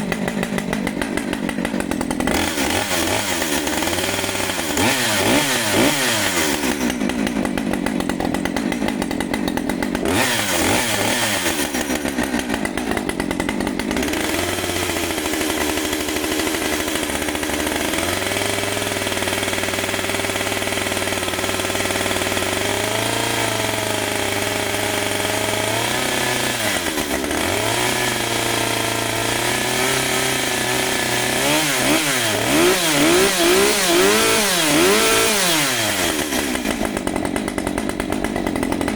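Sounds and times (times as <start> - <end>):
chainsaw engine running and revving: 0.0 - 38.9.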